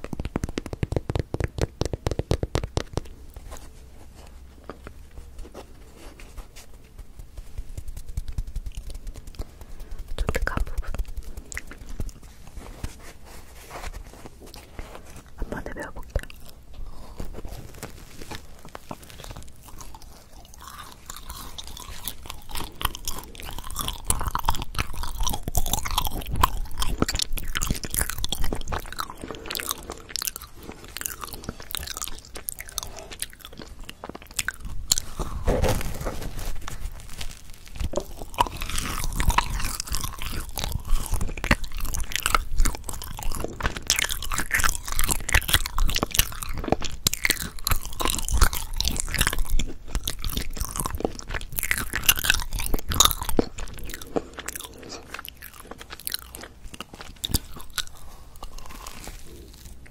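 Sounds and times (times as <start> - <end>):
mouth clicks and crackles: 0.0 - 59.9
person biting and chewing bread: 0.0 - 59.9.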